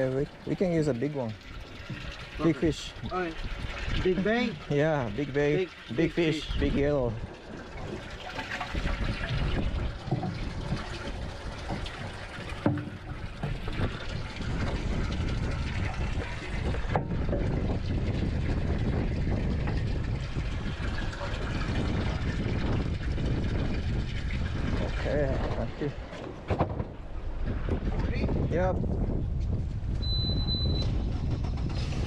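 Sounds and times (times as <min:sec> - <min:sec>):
water rushing and splashing: 0:00.0 - 0:28.3
boat engine running: 0:00.0 - 0:32.0.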